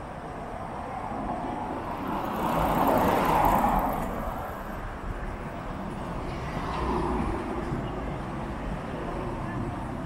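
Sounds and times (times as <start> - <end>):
cars driving past: 0.0 - 10.0.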